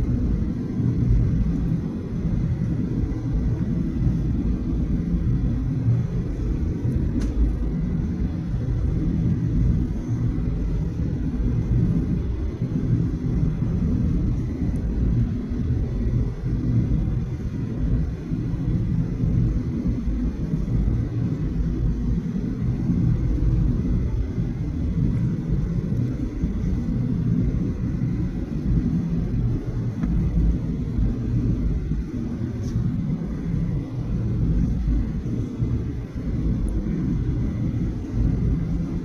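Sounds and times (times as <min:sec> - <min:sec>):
airliner cabin rumble: 0:00.0 - 0:39.0.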